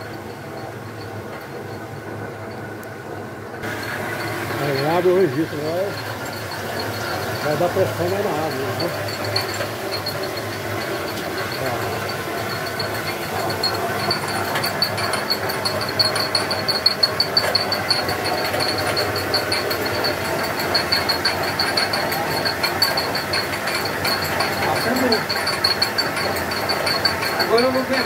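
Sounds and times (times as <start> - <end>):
high pulsing whine: 0.0 - 28.0
turbine mechanical running noise: 0.0 - 28.0.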